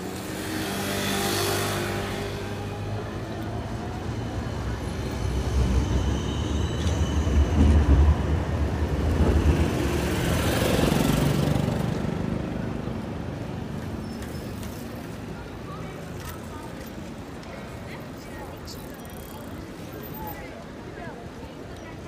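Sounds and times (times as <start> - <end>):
tram rumbling past: 0.0 - 20.1
city street noise: 0.0 - 22.0.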